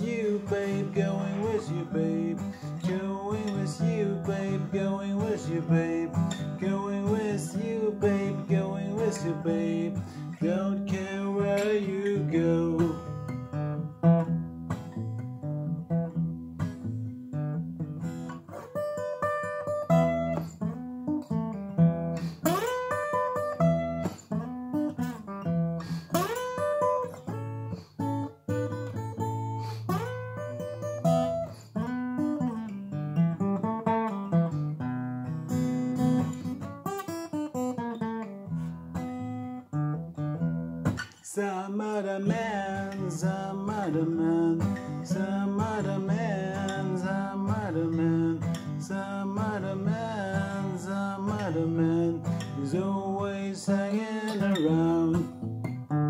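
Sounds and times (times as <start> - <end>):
fingerpicked acoustic guitar blues: 0.0 - 56.0.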